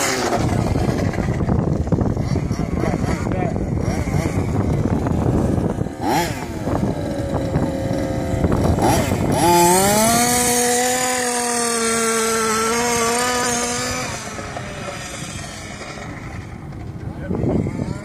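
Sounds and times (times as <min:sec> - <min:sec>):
two-stroke rc car engine revving: 0:00.0 - 0:18.0.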